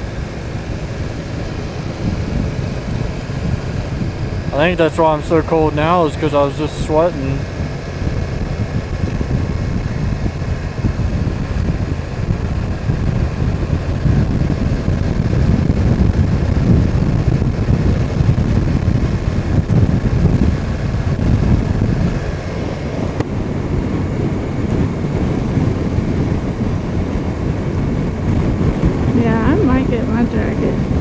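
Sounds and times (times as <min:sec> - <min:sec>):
motorcycle engine running: 0:00.0 - 0:31.0
wind rushing over microphone: 0:00.0 - 0:31.0.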